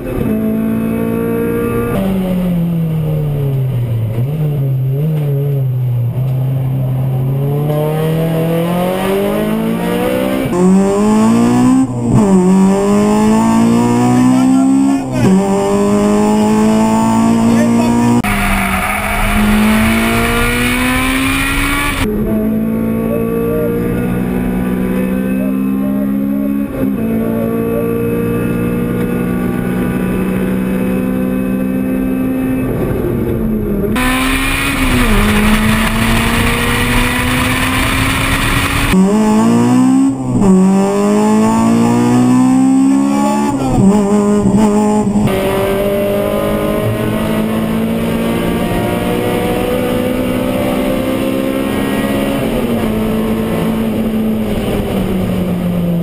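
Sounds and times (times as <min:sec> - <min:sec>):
car engine revving hard: 0:06.8 - 0:33.1, 0:33.8 - 0:56.0.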